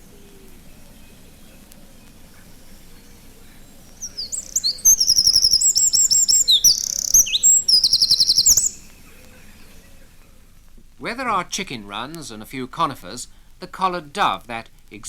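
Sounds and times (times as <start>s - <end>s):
wren singing trills: 0.0s - 14.8s.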